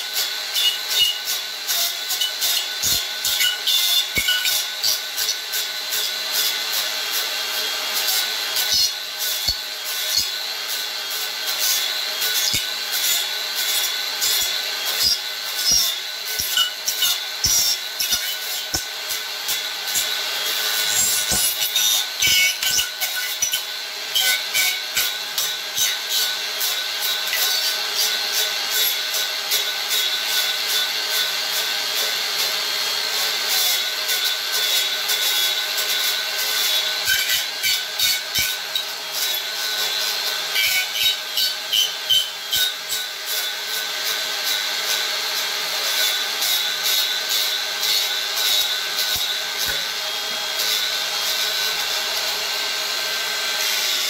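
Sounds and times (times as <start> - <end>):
angle grinder cutting wood: 0.0 - 54.0.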